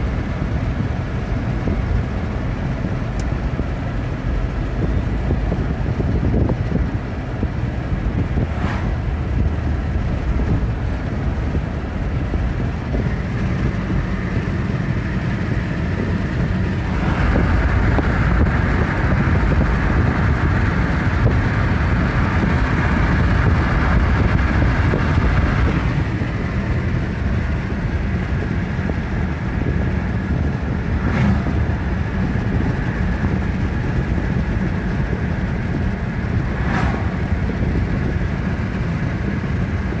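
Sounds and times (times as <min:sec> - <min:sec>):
car interior road rumble: 0:00.0 - 0:40.0.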